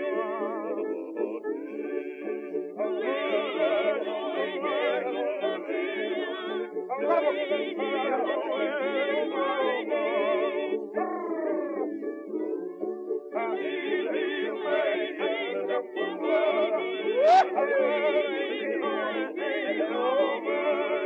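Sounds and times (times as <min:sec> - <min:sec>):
vibrato melodic background music: 0:00.0 - 0:21.0.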